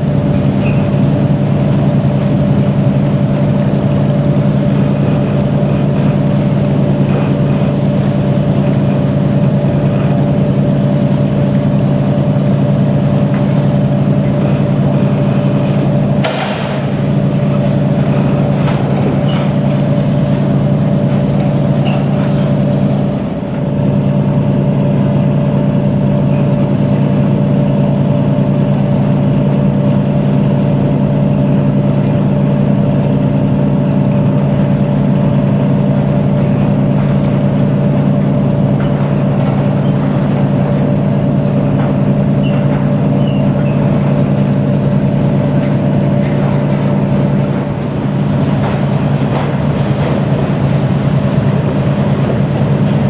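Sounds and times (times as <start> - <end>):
engine whine: 0.0 - 53.0
large engine droning: 0.0 - 53.0.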